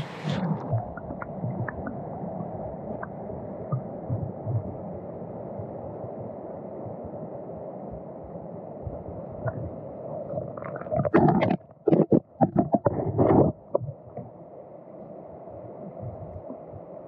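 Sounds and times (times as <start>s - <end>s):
underwater stream rushing: 0.0s - 17.0s.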